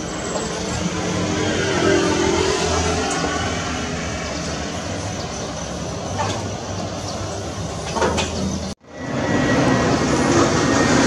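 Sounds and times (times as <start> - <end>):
jet engines rumbling at taxi: 0.0 - 11.0.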